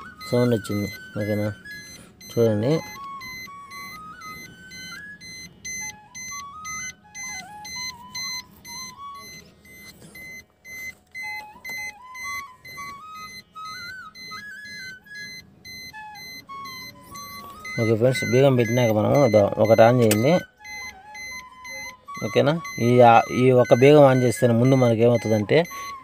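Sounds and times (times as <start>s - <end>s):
car reminder chime beeping: 0.0s - 26.0s
simple stepped melody: 0.0s - 26.0s.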